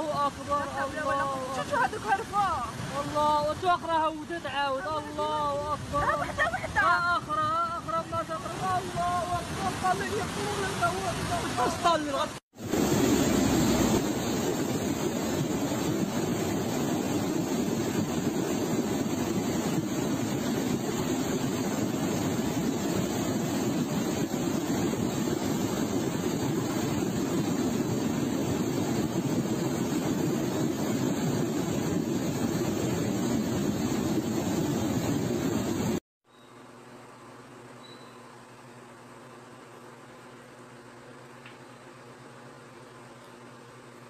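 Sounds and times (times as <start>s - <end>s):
floodwater rushing: 0.0s - 36.0s.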